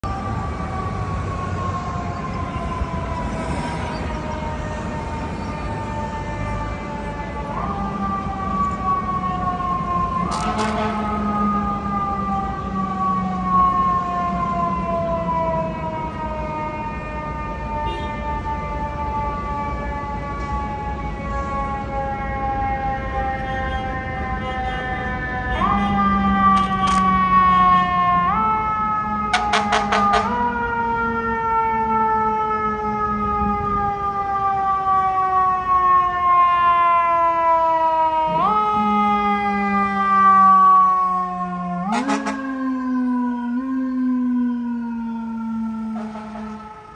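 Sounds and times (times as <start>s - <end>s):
fire engine siren wailing: 0.0s - 46.9s.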